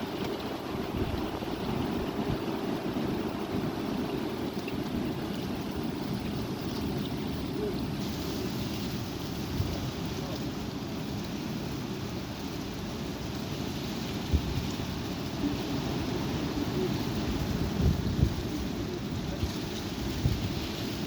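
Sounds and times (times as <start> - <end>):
gusty wind on microphone: 0.0 - 21.0.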